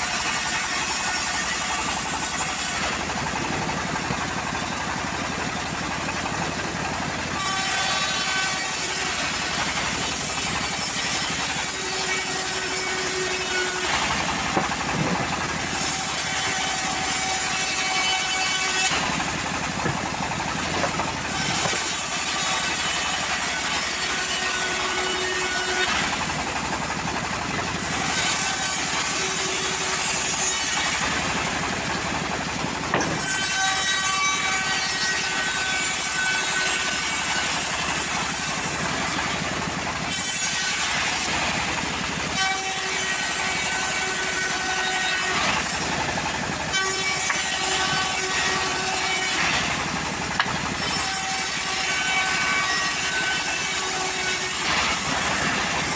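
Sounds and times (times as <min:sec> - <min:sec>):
bandsaw cutting wood: 0:00.0 - 0:55.9.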